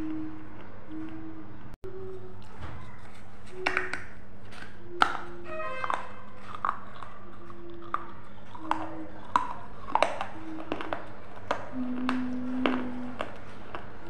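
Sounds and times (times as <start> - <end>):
crunchy chewing: 2.0 - 14.0.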